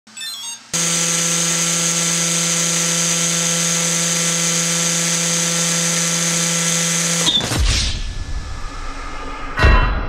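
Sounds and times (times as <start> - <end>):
electric motor humming and whining: 0.6 - 8.8.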